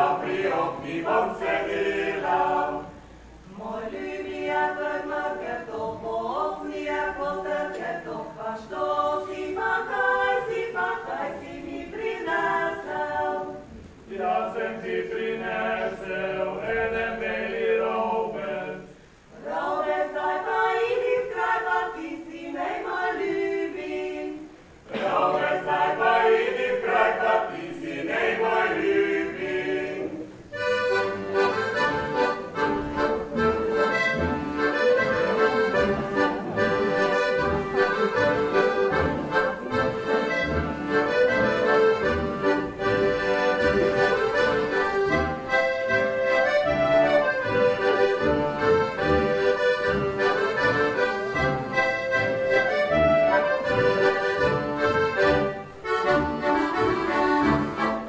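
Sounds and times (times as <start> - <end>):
mixed voices singing unaccompanied: 0.0 - 58.0.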